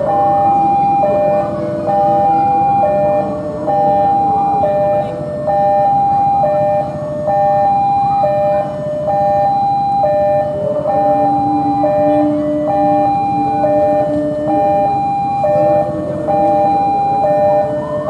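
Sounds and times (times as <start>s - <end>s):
two-tone level crossing alarm: 0.0s - 18.0s.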